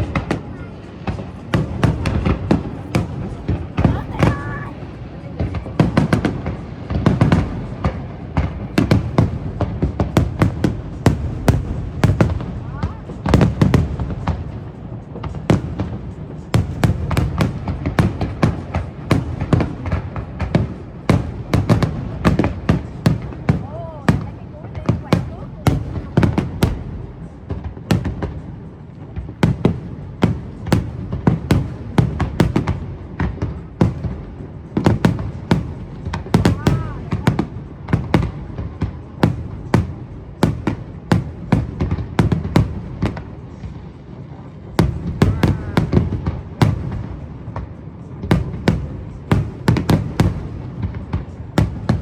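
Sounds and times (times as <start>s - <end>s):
fireworks bursting with sharp bangs: 0.0s - 52.0s.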